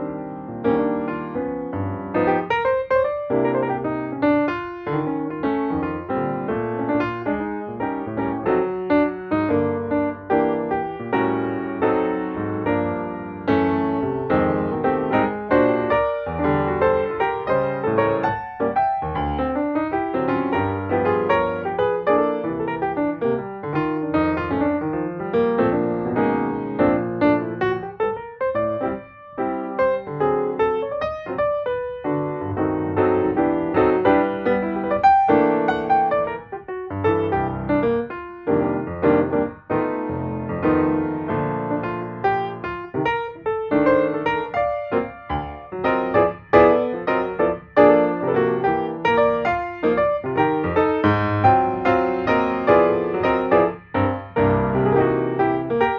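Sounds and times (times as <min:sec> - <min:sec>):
piano notes: 0:00.0 - 0:55.9.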